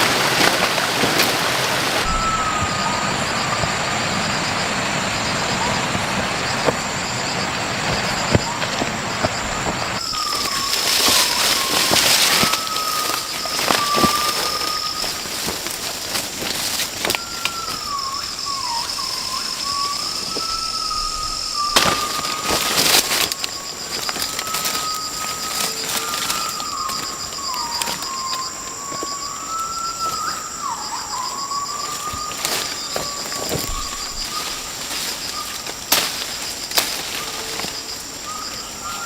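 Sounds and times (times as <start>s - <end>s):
high-pitched insect tones: 0.0s - 39.0s
wavering insect whine: 0.0s - 39.0s.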